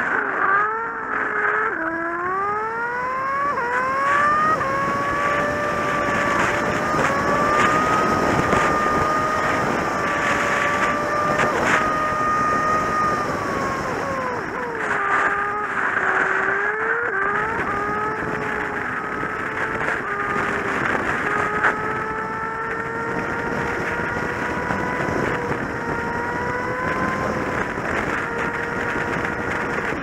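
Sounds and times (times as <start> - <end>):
motorcycle engine accelerating: 0.0 - 30.0
wind noise: 0.0 - 30.0.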